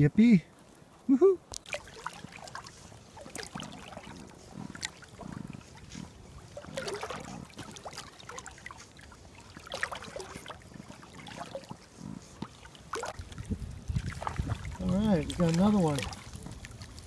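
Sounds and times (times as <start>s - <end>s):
water lapping and trickling: 0.0s - 17.0s
small splashes and drips: 1.4s - 17.0s.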